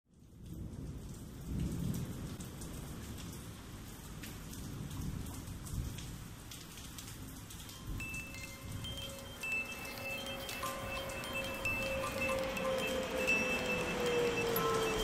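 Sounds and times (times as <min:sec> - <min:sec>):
steady rain: 0:00.1 - 0:15.0.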